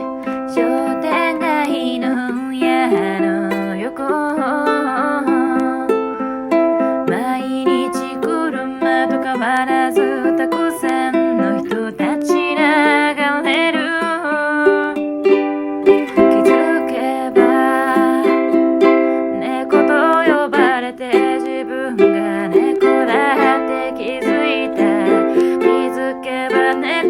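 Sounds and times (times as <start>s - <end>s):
pop song on ukulele: 0.0s - 27.0s.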